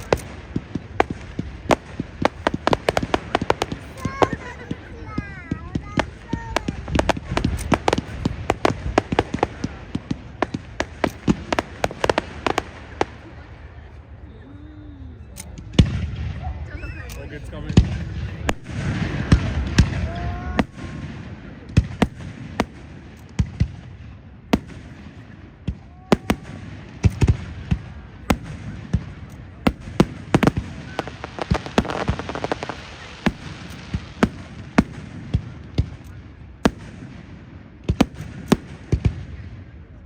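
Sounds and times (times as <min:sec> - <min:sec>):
fireworks banging: 0:00.0 - 0:14.0, 0:15.4 - 0:40.0
crowd hubbub: 0:00.0 - 0:40.0
fireworks crackling: 0:00.0 - 0:40.0.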